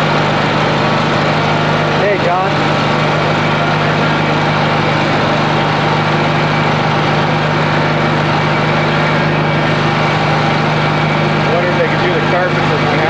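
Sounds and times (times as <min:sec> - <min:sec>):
engine core drill boring concrete: 0:00.0 - 0:13.0.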